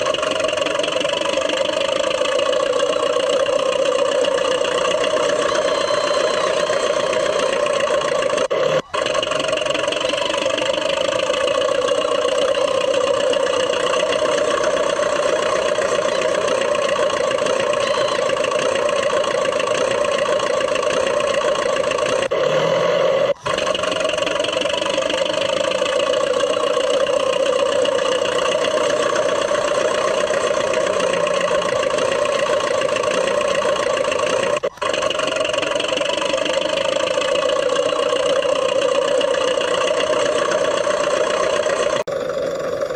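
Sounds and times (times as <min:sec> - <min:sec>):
model bulldozer drive whine: 0:00.0 - 0:42.9.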